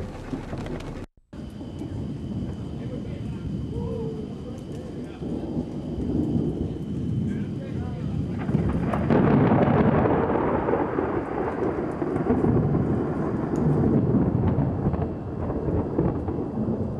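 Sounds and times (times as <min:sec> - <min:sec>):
rain falling: 0:00.0 - 0:16.9
thunder rumbling: 0:00.0 - 0:16.9.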